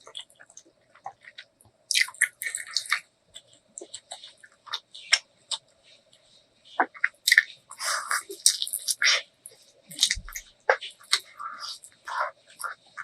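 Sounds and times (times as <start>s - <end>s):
wet mouth smacks and chewing: 0.0s - 5.7s, 6.8s - 9.2s, 9.9s - 13.0s.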